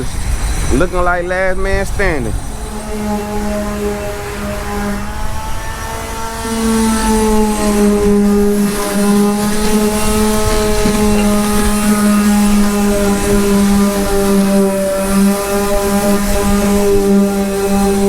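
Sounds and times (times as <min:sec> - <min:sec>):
electric sander motor humming: 0:00.0 - 0:18.0.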